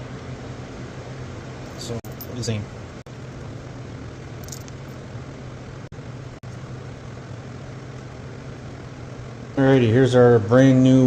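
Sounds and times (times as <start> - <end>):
room hum and hiss: 0.0 - 11.0.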